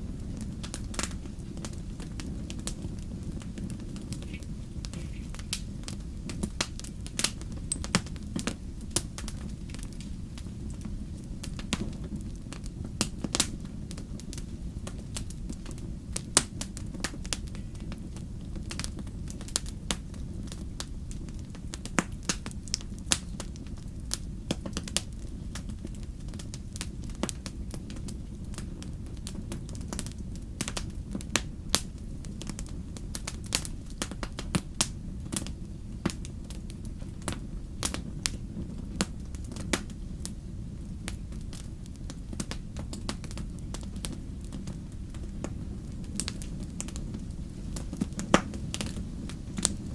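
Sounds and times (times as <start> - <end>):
low rumble of burning fire: 0.0 - 49.9
wood fire crackling: 0.0 - 49.9.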